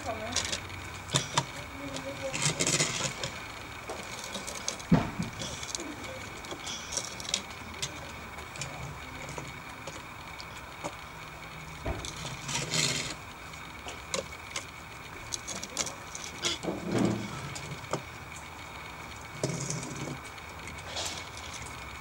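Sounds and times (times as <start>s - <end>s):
toy cars tapping on wooden deck: 0.0s - 11.0s, 11.7s - 18.1s, 19.3s - 21.8s.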